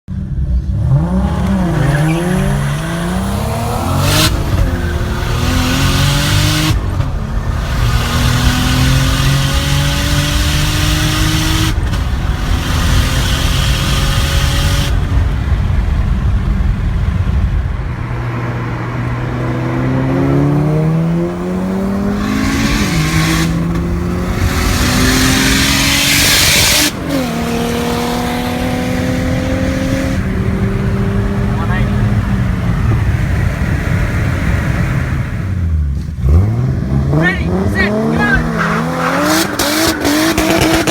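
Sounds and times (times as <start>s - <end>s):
turbocharged car engine accelerating: 0.1s - 40.9s.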